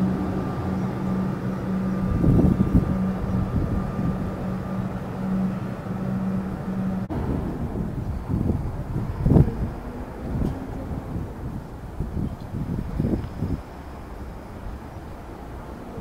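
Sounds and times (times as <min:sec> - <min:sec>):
pulsing electrical hum: 0:00.0 - 0:16.0
train running noise: 0:00.0 - 0:16.0.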